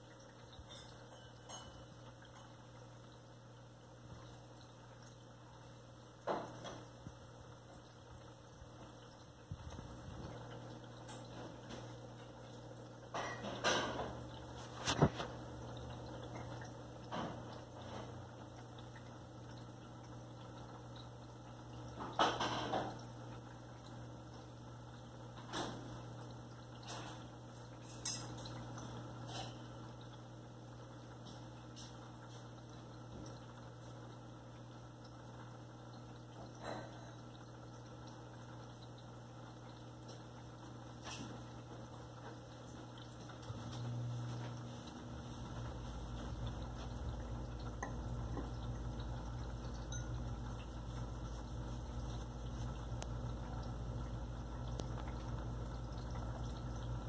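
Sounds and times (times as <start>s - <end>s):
aquarium equipment humming: 0.0s - 57.0s.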